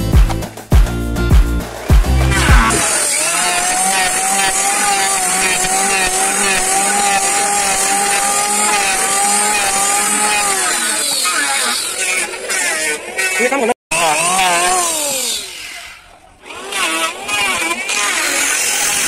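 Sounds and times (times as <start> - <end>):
power tool motor whining: 2.2 - 19.0.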